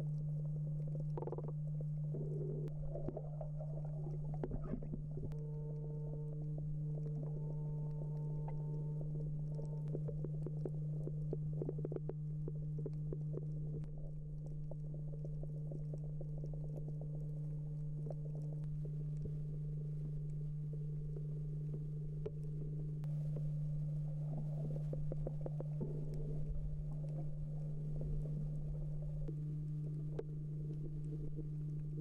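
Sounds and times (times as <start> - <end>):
crackle of short clicks: 0.0 - 32.0
faint steady tones: 0.0 - 32.0
low underwater hum: 0.0 - 32.0.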